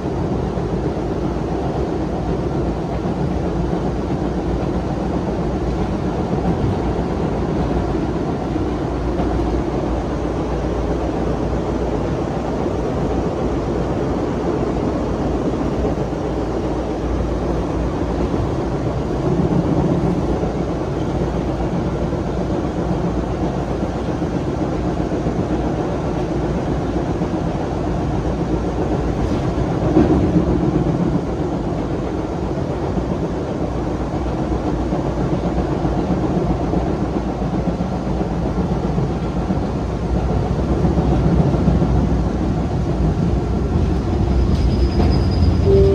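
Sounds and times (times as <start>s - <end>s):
subway train rumbling on rails: 0.0s - 45.9s.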